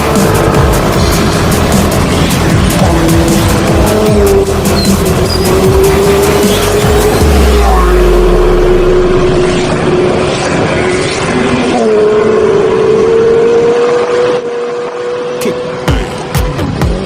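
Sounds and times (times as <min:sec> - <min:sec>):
motorcycle engine running: 0:00.0 - 0:10.6, 0:11.3 - 0:17.0.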